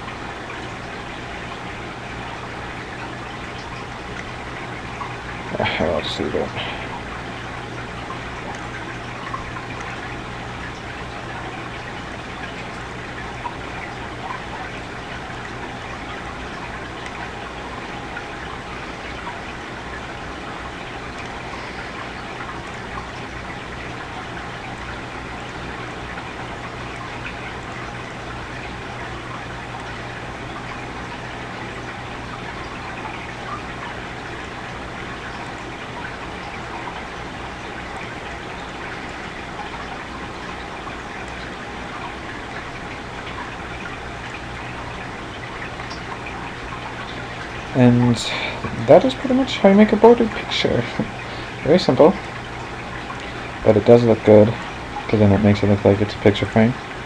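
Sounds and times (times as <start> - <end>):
microphone hiss and hum: 0.0 - 57.0.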